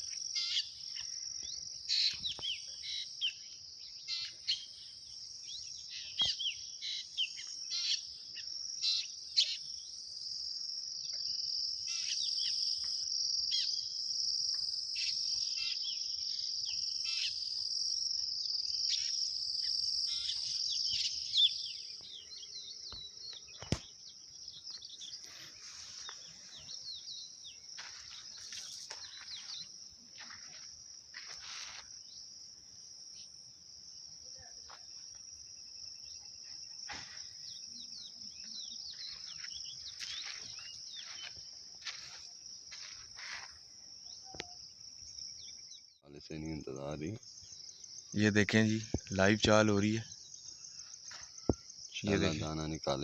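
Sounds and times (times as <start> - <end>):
birds chirping: 0.0 - 32.3, 35.4 - 53.0
insect chorus drone: 0.0 - 53.0.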